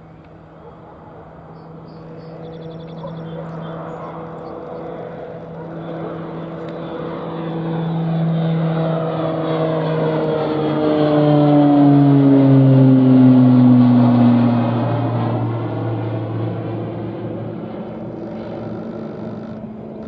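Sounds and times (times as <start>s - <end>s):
aircraft engine hum: 0.0s - 20.0s.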